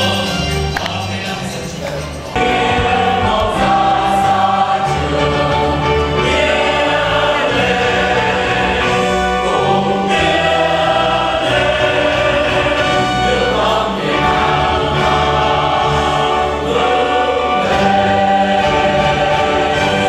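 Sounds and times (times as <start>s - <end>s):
orchestral accompaniment: 0.0s - 20.0s
choir singing an anthem: 2.4s - 20.0s.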